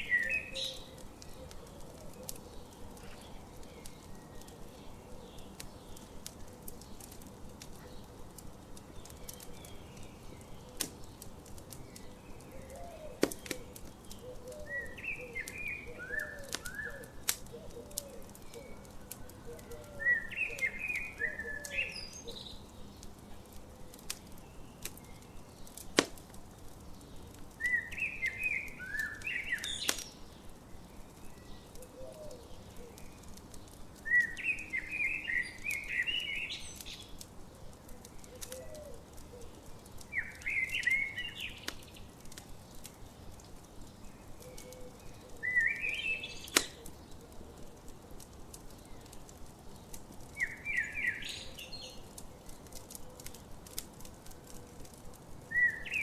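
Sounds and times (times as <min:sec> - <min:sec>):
campfire crackling and popping: 0:00.0 - 0:56.0
songbird chirping: 0:00.0 - 0:56.0.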